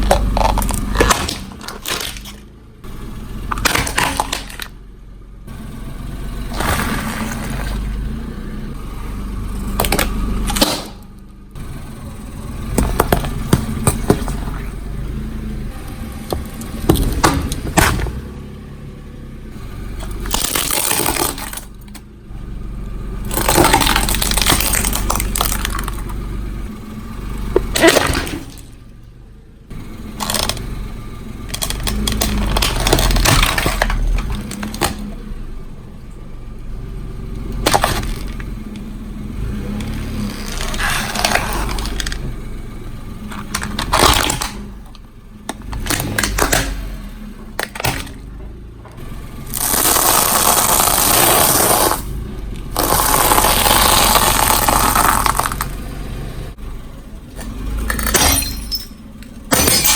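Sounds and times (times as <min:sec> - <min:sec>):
objects crushed under car tyre: 0:00.0 - 0:04.9, 0:06.4 - 0:08.2, 0:09.6 - 0:11.2, 0:12.6 - 0:15.3, 0:16.3 - 0:18.4, 0:19.8 - 0:26.8, 0:27.4 - 0:29.0, 0:29.7 - 0:35.7, 0:36.4 - 0:56.7, 0:57.3 - 0:59.9
rolling car rumble: 0:00.0 - 0:59.9.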